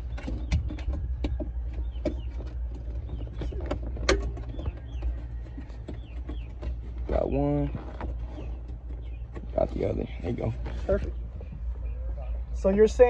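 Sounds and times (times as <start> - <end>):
birds chirping: 0.0 - 13.0
low hum: 0.0 - 13.0.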